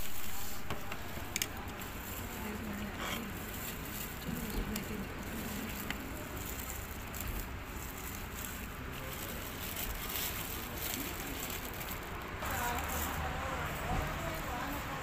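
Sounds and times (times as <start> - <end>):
faint murmur of distant voices: 0.0 - 15.0
low traffic rumble: 0.0 - 15.0.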